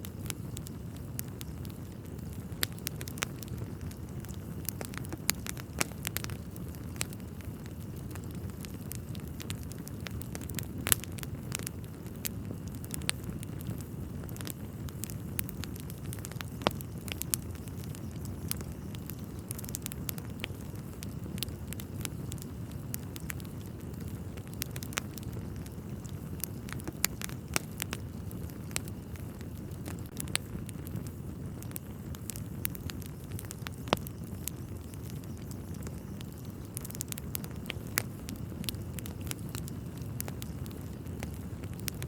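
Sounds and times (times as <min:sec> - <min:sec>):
fire flames rushing: 0:00.0 - 0:42.0
logs crackling and popping: 0:00.0 - 0:42.0.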